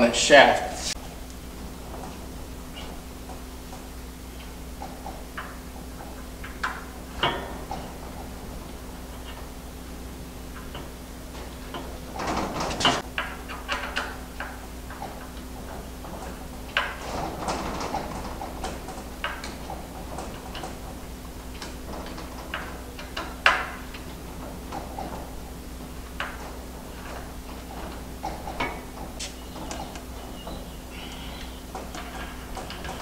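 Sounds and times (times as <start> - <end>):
steady low hum: 0.0 - 33.0
light clicks and metal knocks: 1.0 - 9.6, 10.5 - 33.0.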